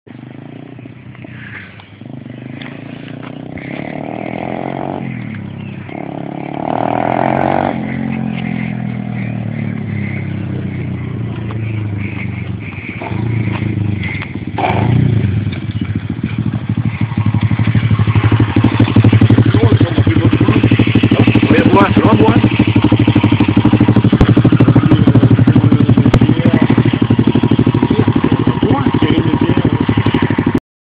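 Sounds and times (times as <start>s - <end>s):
pit bike engine revving: 0.1s - 30.6s.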